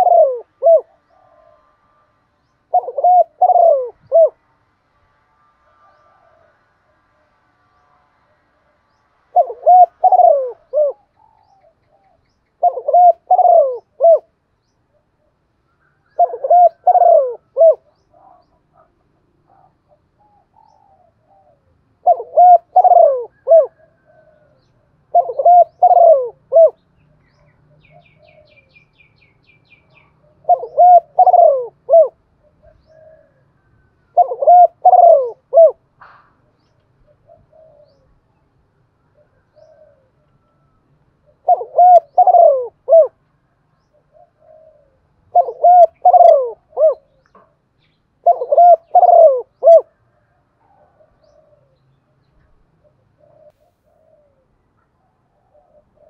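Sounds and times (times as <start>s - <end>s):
dove cooing: 0.0s - 1.8s, 2.7s - 4.4s, 9.3s - 14.3s, 14.9s - 28.8s, 29.8s - 38.4s, 39.0s - 43.3s, 43.9s - 47.6s, 48.2s - 51.8s, 52.4s - 56.0s.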